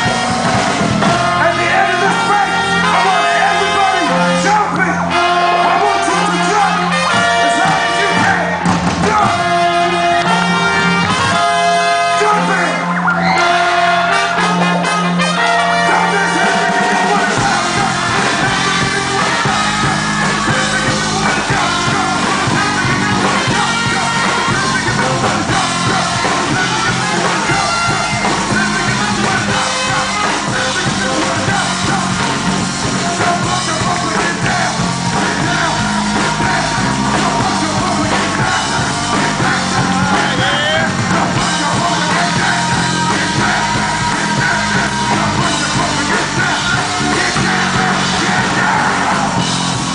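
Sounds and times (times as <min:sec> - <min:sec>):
brass playing: 0:00.0 - 0:49.9.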